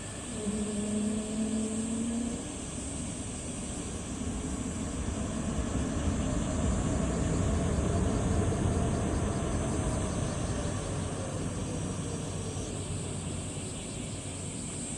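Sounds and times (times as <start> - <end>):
jet engines rumbling: 1.3 - 14.9.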